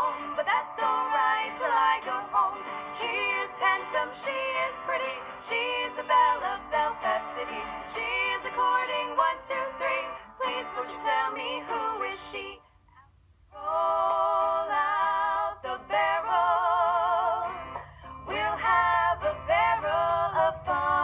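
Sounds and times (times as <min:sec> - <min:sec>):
women singing in harmony: 0:00.0 - 0:12.6, 0:13.5 - 0:21.0
acoustic guitar: 0:00.0 - 0:21.0.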